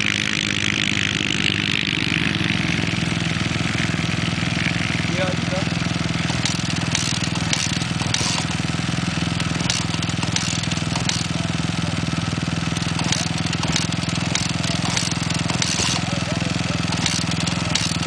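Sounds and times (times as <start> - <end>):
dirt bike engine idling: 0.0 - 18.0.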